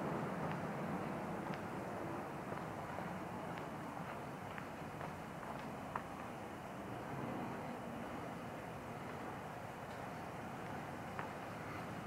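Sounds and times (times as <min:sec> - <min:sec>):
city street rumble and hiss: 0:00.0 - 0:12.0.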